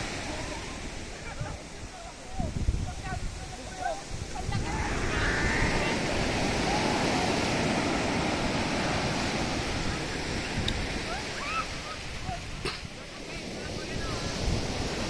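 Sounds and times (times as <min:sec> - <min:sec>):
ocean surf breaking on shore: 0:00.0 - 0:15.0.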